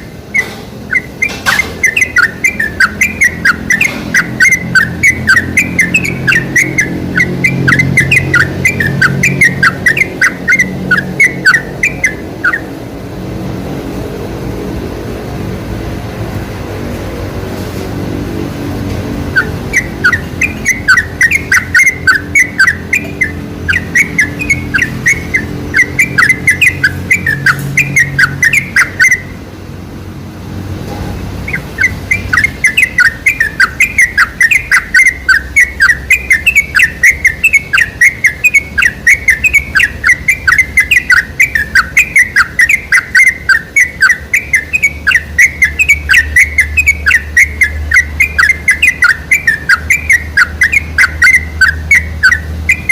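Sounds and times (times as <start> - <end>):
bulbul chattering song: 0.0 - 14.0, 18.7 - 52.9.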